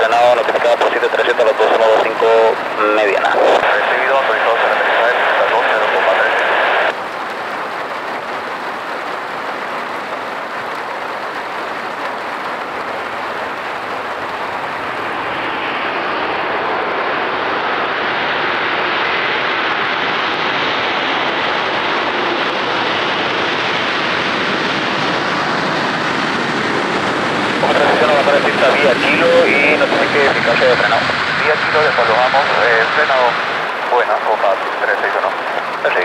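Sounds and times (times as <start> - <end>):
aircraft engines rushing: 0.0 - 36.0.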